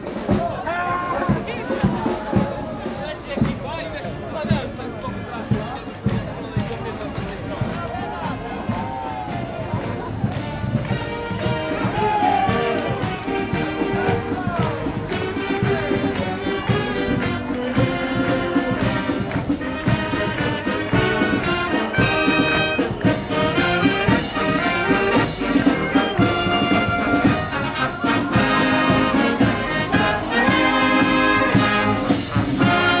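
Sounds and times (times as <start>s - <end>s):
marching wind band playing: 0.0s - 33.0s.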